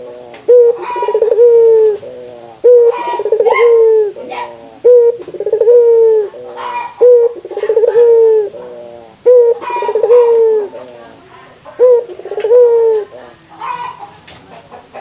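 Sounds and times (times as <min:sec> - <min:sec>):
doves cooing: 0:00.0 - 0:15.0.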